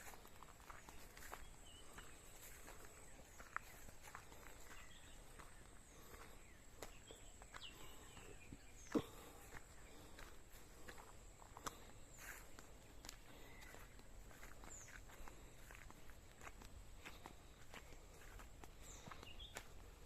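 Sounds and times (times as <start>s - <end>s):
faint bird chirps: 0.0s - 20.0s
footsteps on forest floor: 0.0s - 20.0s.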